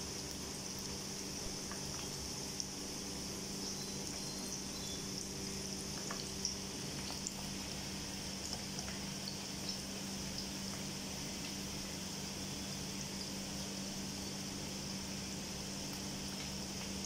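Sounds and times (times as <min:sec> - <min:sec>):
hot oil sizzling: 0:00.0 - 0:17.0
low steady hum: 0:00.0 - 0:17.0.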